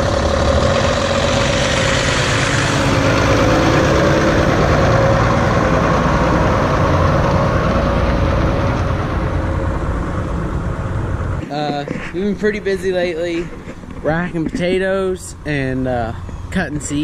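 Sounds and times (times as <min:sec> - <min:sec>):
heavy vehicle engine idling: 0:00.0 - 0:17.0.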